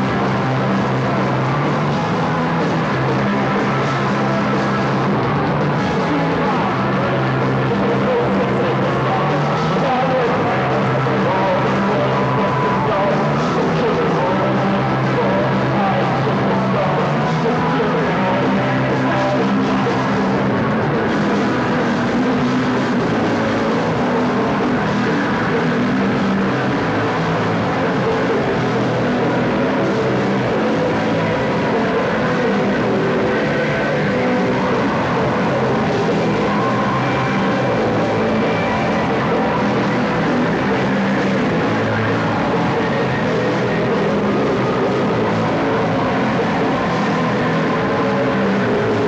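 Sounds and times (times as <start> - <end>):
bass guitar: 0.0 - 49.0
drum kit: 0.0 - 49.0
punk rock band playing: 0.0 - 49.0.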